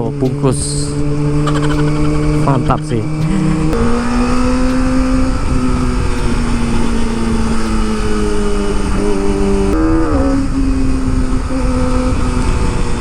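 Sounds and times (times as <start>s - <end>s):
motorcycle engine at high revs: 0.0s - 13.0s
wind rush: 0.0s - 13.0s.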